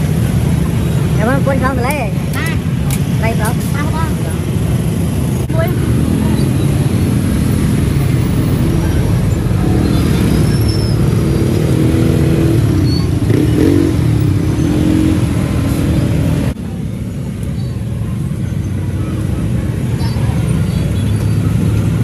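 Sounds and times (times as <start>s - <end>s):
traffic engines rumbling: 0.0s - 22.0s.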